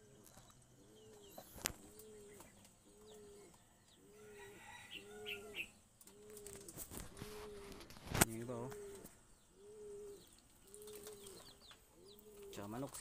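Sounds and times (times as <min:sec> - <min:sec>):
pigeon cooing: 0:00.0 - 0:13.0
small birds chirping: 0:00.0 - 0:13.0.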